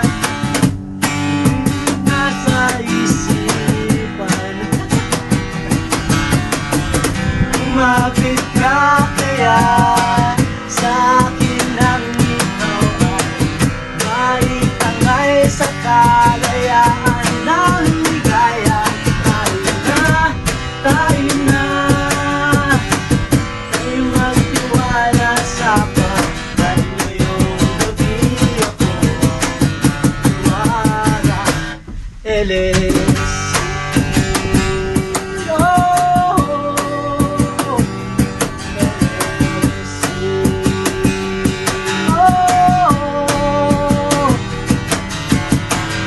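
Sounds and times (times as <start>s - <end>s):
acoustic guitar strumming: 0.0s - 46.0s
cajon beat: 0.0s - 46.0s
young men singing: 2.1s - 5.2s, 7.6s - 23.0s, 23.8s - 33.7s, 35.2s - 44.4s.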